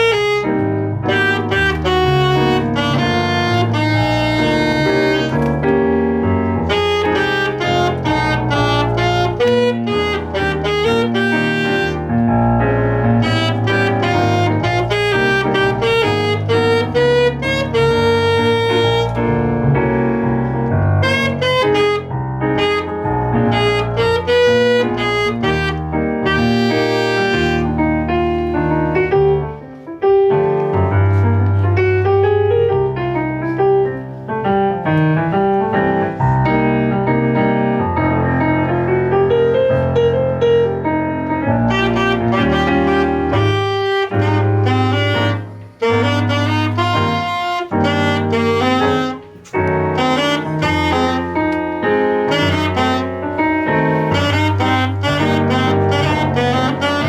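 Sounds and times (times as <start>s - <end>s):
saxophone melody: 0.0s - 29.5s, 37.8s - 57.0s
bass line: 0.0s - 29.6s, 35.0s - 57.0s
piano: 0.0s - 57.0s.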